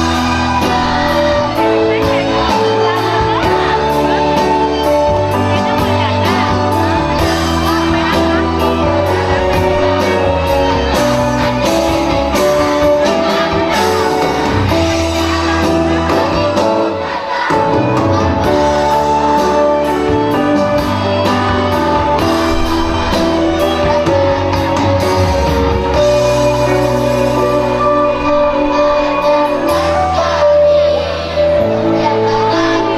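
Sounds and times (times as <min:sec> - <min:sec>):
accompanying music with steady beat: 0:00.0 - 0:32.9
children's choir singing: 0:00.0 - 0:32.9.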